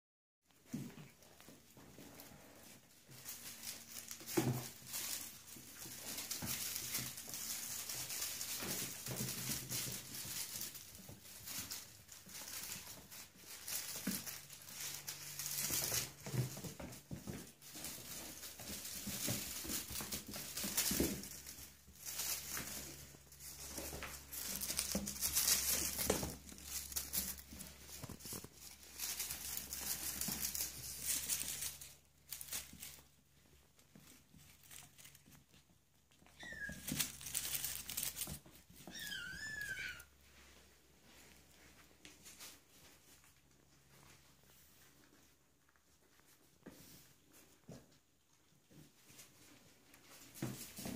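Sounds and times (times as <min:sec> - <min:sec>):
crinkly toys rustling: 0:00.6 - 0:50.9
paws scuffling on hard floor: 0:00.6 - 0:50.9.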